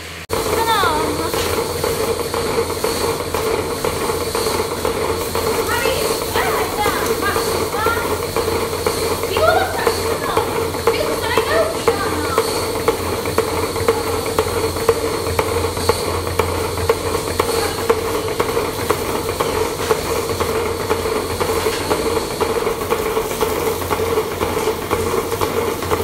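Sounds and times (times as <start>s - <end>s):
milking machine hiss and hum: 0.0s - 26.0s.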